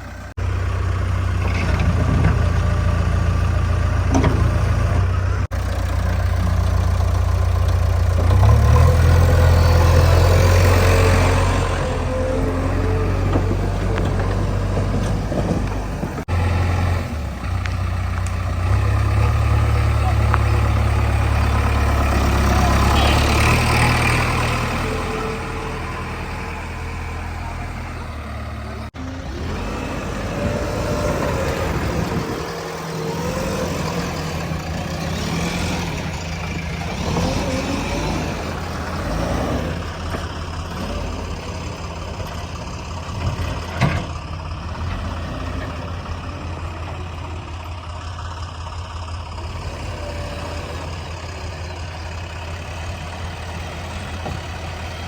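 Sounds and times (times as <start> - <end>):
heavy diesel engines rumbling: 0.0 - 55.0.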